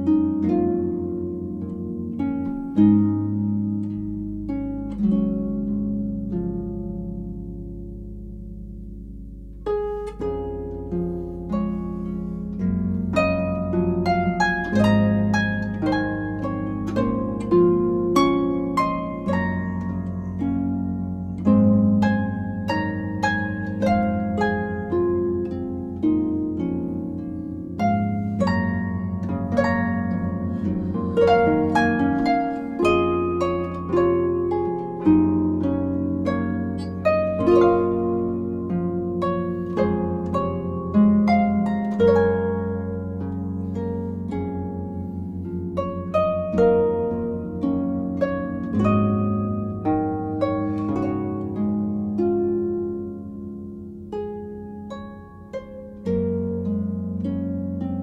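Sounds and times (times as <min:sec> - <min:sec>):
plucked notes: 0:00.0 - 0:58.0.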